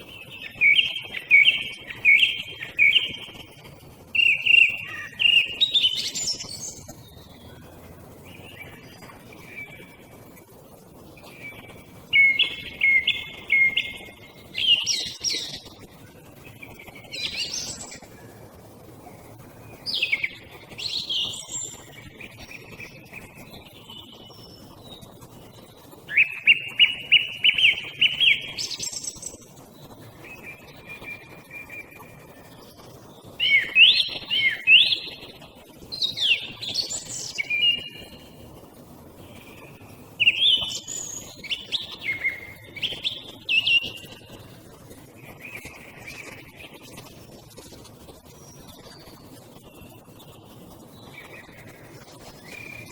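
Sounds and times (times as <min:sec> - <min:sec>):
song thrush singing: 0:00.0 - 0:10.0, 0:11.1 - 0:18.2, 0:19.7 - 0:32.2, 0:33.4 - 0:38.4, 0:39.2 - 0:47.0.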